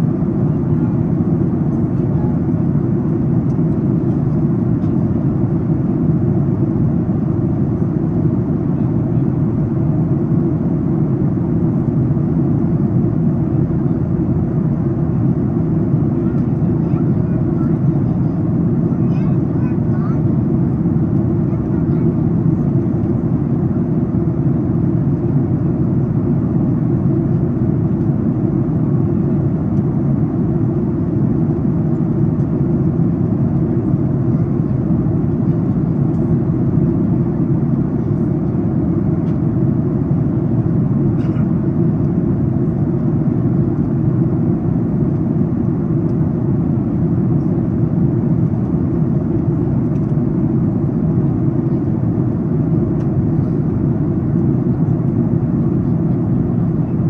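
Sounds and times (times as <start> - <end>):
airliner cabin rushing hum: 0.0 - 57.0.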